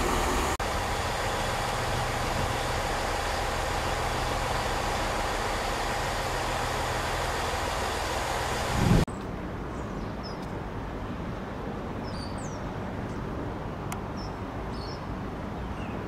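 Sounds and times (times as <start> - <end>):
train engine hum: 0.0 - 16.0.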